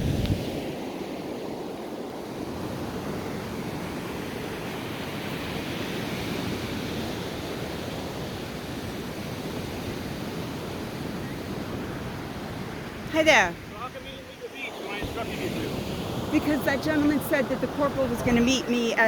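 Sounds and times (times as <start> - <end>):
surf breaking on beach: 0.0 - 18.9.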